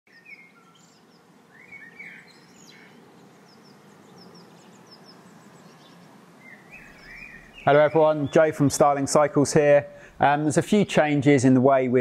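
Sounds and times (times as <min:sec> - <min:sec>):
small birds chirping: 0:00.1 - 0:11.4
faint low background hum: 0:00.1 - 0:12.0.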